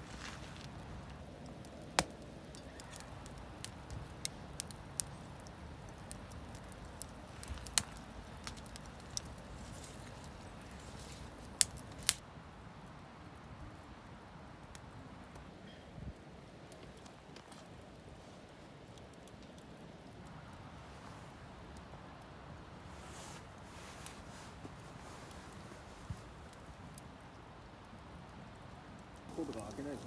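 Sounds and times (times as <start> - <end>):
campfire wood crackling: 0.0 - 30.0.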